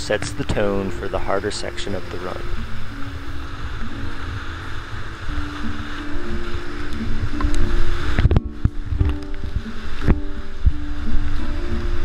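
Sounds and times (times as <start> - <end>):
faint background music: 0.0 - 12.0
whitewater rapids rushing: 0.0 - 12.0
wind rumbling on microphone: 0.0 - 12.0.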